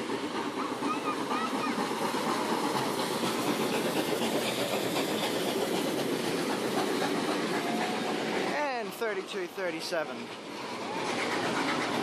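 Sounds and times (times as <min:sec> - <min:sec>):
steam locomotive passing: 0:00.0 - 0:12.0.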